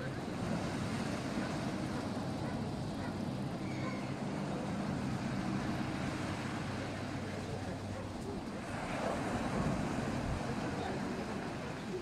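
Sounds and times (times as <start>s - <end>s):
engine running with low hum: 0.0s - 11.9s.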